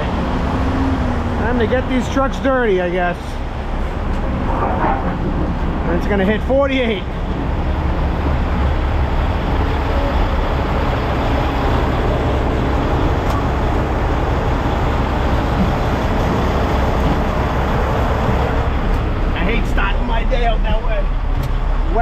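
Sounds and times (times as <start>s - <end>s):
diesel truck engine rumble: 0.0s - 22.0s
road noise: 0.0s - 22.0s.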